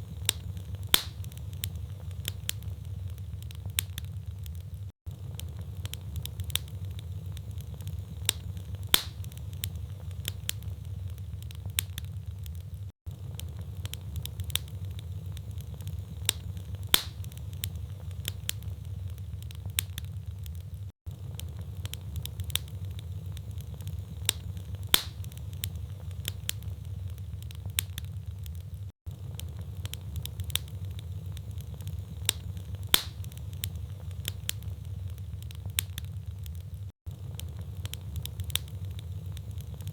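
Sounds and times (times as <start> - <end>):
fire snaps and pops: 0.0 - 39.9
wood fire crackling: 0.0 - 39.9.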